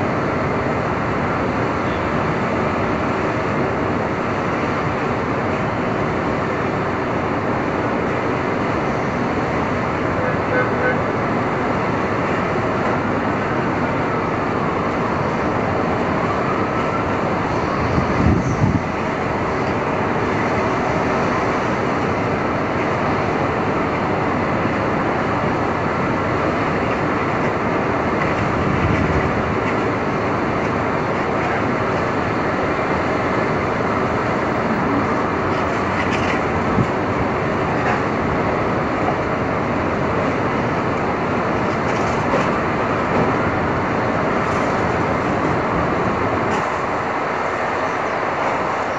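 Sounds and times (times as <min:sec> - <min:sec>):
city street traffic roar: 0:00.0 - 0:48.9.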